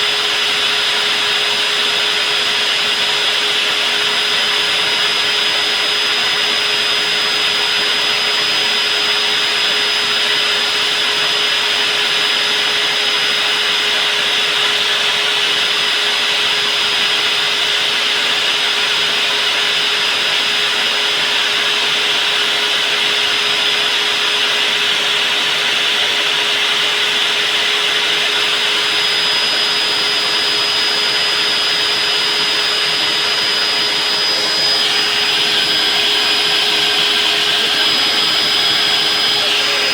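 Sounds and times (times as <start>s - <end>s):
diamond core drill motor whine: 0.0s - 39.9s.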